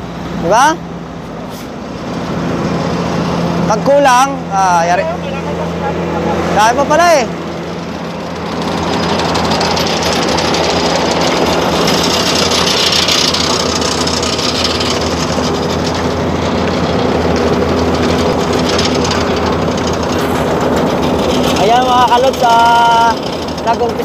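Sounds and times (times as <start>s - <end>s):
heavy diesel engine drone: 0.0s - 24.0s.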